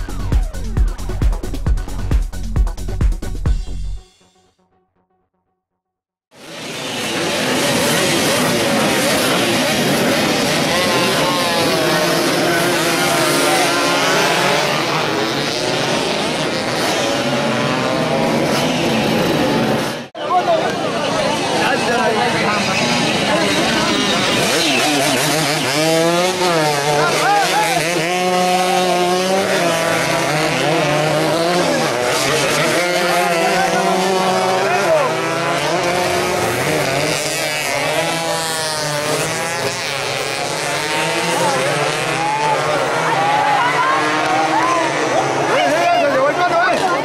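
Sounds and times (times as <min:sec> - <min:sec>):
racing motorcycle engines revving: 0:00.0 - 0:03.4, 0:06.3 - 0:47.0.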